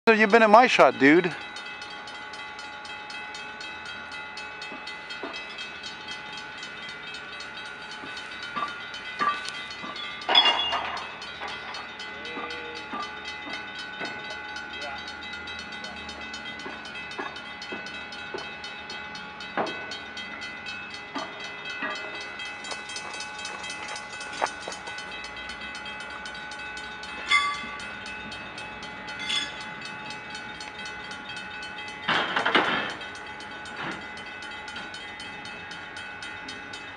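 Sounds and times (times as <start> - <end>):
level-crossing warning bell: 0.1 - 36.9.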